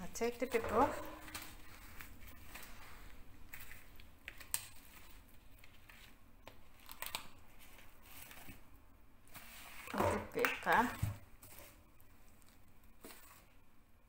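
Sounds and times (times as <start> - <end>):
plastic and paper crinkling: 0.2 - 8.6, 9.3 - 13.6.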